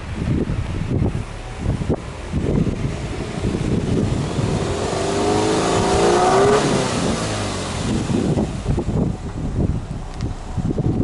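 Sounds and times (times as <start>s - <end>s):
car engine revving: 1.1s - 11.0s.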